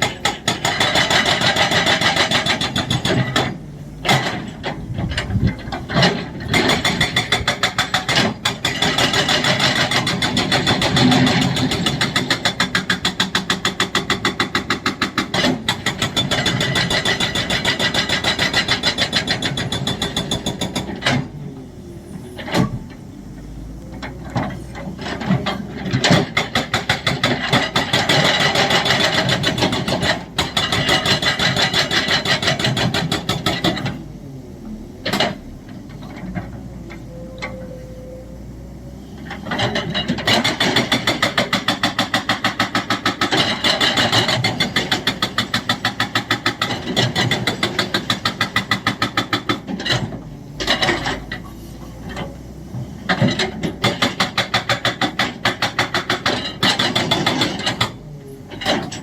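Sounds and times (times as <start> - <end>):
hydraulic breaker hammering: 0.0 - 21.4, 25.0 - 34.0, 39.4 - 51.3, 53.1 - 59.0
diesel engine running: 0.0 - 59.0.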